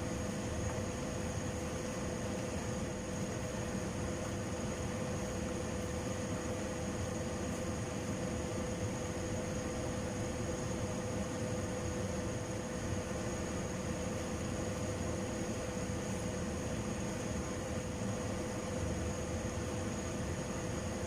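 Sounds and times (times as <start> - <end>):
faint high whine: 0.0 - 21.0
machine hum and hiss: 0.0 - 21.0.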